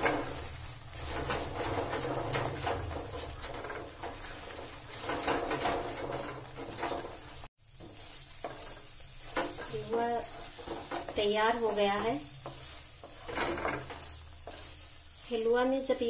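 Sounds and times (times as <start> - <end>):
wooden spatula scraping a pan: 0.0 - 16.0.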